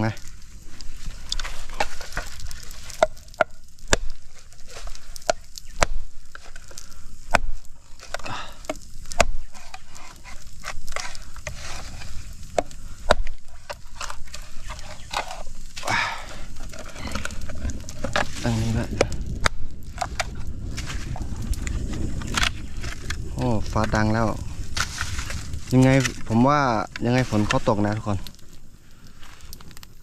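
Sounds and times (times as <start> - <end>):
wood fire cracking: 0.0 - 30.0
stick knocking on fire: 1.3 - 15.8, 16.6 - 27.6.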